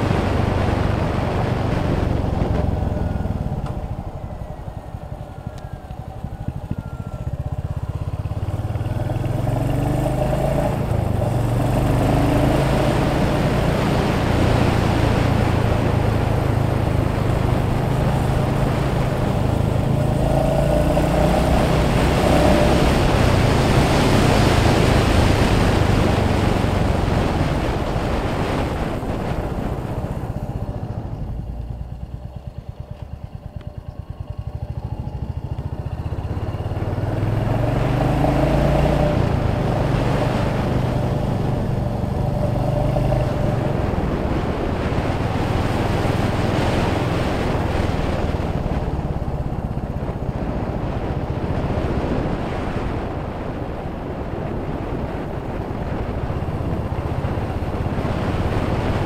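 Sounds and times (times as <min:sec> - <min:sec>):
motorcycle engine running: 0:00.0 - 0:59.0
rush of air and road noise: 0:00.0 - 0:59.0.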